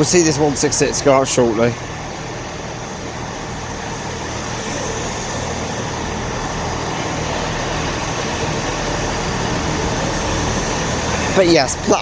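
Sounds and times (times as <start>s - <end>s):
train diesel engines running: 0.0s - 12.0s.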